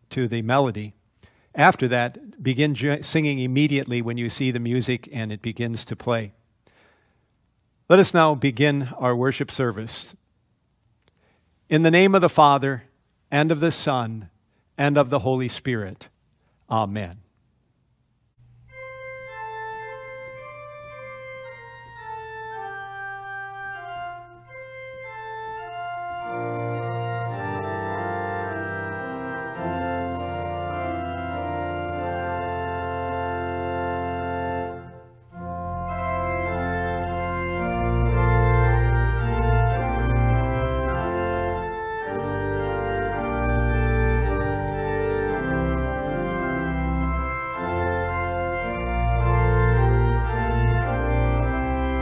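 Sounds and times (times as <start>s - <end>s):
church organ playing a hymn: 0.0s - 7.0s, 7.9s - 10.2s, 11.7s - 16.0s, 18.4s - 52.0s.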